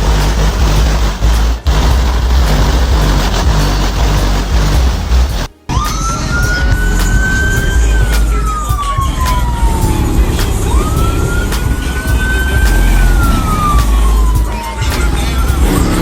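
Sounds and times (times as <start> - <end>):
deep steady bass: 0.0 - 16.0
siren wailing: 0.0 - 16.0.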